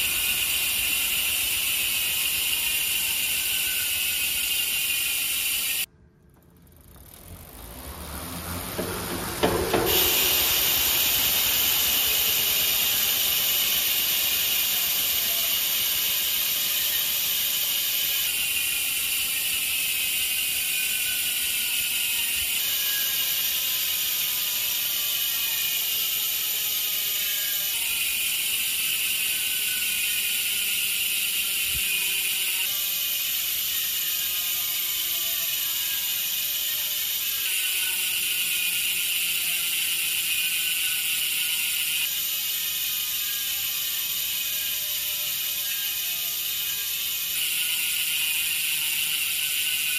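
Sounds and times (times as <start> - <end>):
bike freehub ratchet buzzing: 0.0 - 49.9.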